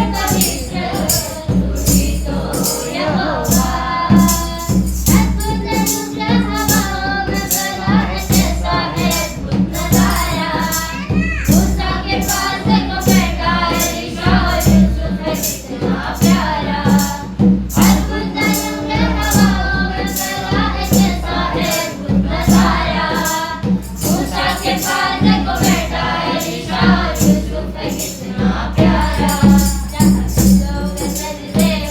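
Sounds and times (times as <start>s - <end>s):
tambourine: 0.0s - 31.9s
worship song singing: 0.0s - 31.9s.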